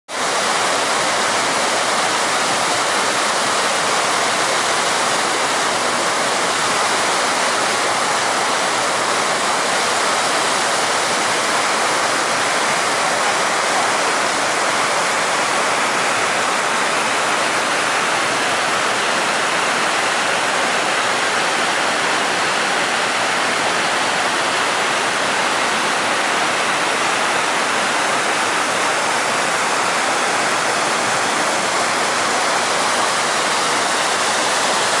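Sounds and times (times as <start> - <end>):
water flowing in a stream: 0.1 - 35.0.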